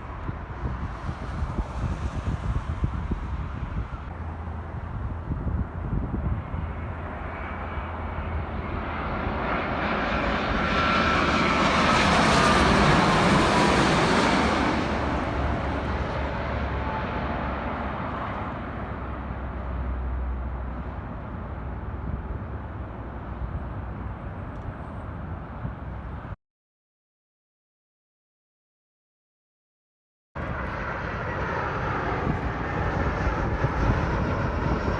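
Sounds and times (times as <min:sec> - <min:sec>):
airliner engine noise passing: 0:00.0 - 0:26.4, 0:30.4 - 0:34.9.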